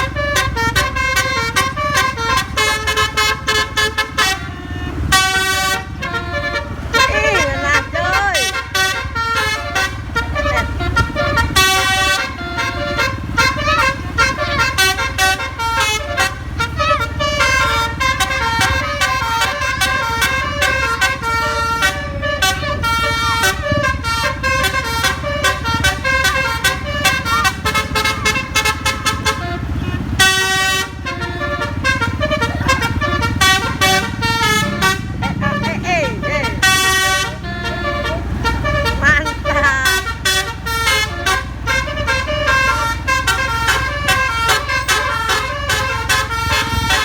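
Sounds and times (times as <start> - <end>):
bus air horn melody: 0.0 - 47.0
low rumble of engine and road: 0.0 - 47.0.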